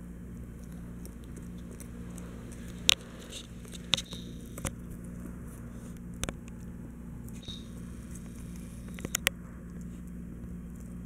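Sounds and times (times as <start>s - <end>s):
dog chewing hard bone: 0.0s - 11.0s.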